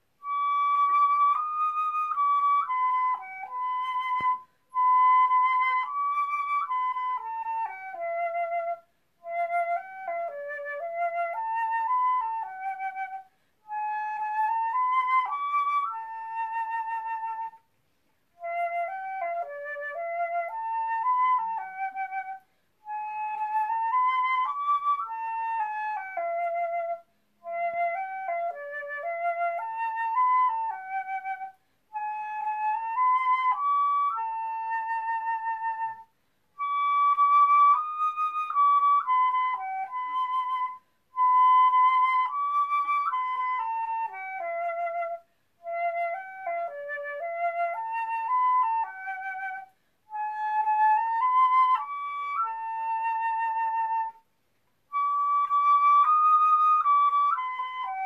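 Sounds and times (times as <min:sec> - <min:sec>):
solo flute melody: 0:00.0 - 0:58.0.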